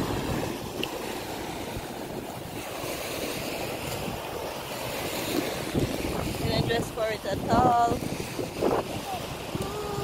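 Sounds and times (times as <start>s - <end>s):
surf washing onto beach: 0.0s - 10.0s
wind buffeting microphone: 0.0s - 10.0s.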